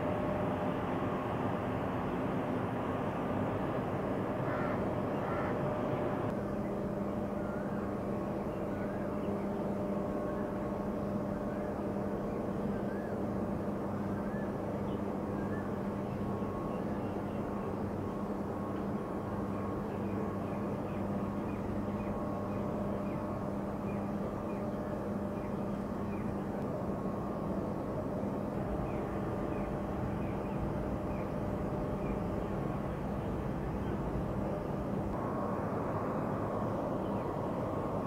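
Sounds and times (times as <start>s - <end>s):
conveyor machinery humming din: 0.0s - 38.0s.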